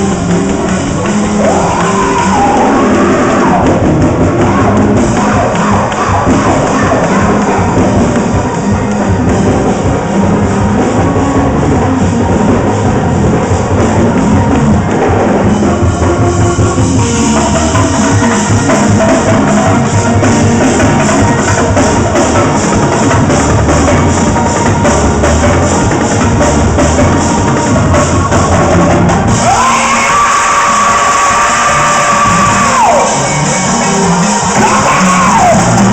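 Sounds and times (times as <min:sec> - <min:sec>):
bass drum: 0:00.0 - 0:35.9
gospel band playing: 0:00.0 - 0:35.9.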